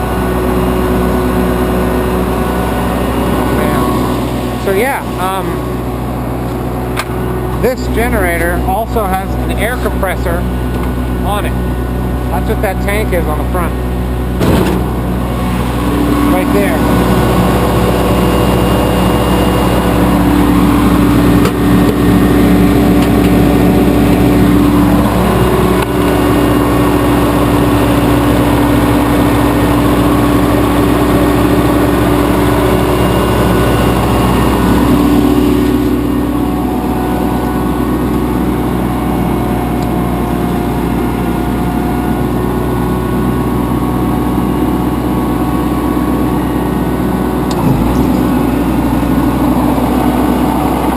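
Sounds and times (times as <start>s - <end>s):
generator engine running: 0.0s - 50.9s.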